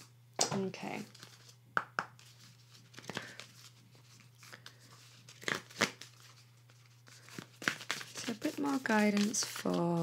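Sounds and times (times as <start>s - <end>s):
cards rustling and tapping: 1.0s - 10.0s.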